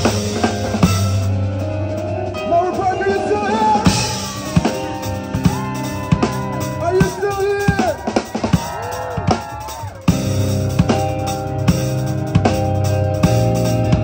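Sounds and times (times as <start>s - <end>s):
drum kit beat: 0.0s - 14.0s
sliding lead melody: 0.0s - 14.0s.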